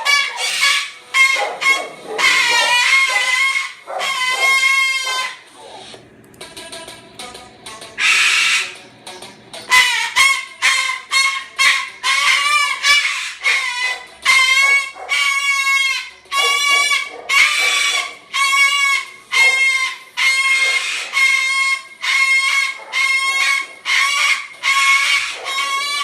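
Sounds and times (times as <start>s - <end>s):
cockatoo screeching: 0.0s - 5.9s, 8.0s - 8.9s, 9.7s - 26.0s.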